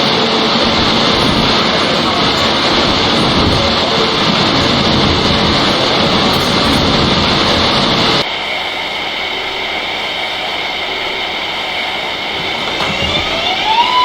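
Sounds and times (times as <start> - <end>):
steady hum with high tones: 0.0 - 14.0
subway train rumble: 0.0 - 14.0.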